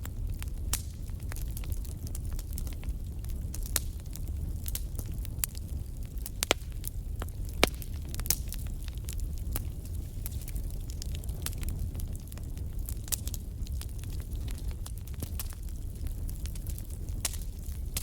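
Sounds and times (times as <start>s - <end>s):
low fire rumble: 0.0s - 18.0s
wood fire crackling and popping: 0.0s - 18.0s.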